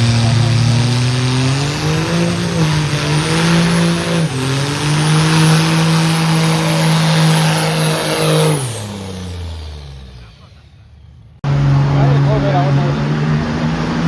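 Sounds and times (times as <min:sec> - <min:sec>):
tires spinning in a burnout: 0:00.0 - 0:14.0
truck engine revving: 0:00.0 - 0:14.0.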